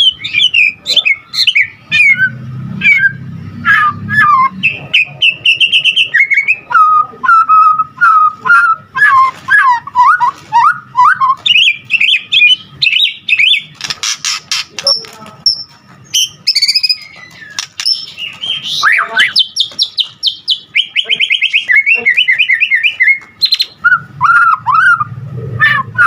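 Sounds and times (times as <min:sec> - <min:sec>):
songbird singing varied song: 0:00.0 - 0:13.9, 0:14.5 - 0:26.0.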